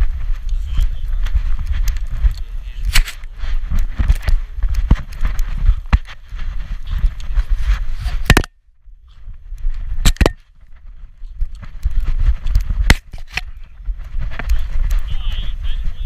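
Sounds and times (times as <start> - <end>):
camera harness rubbing and knocking: 0.0 - 8.5, 9.7 - 15.1.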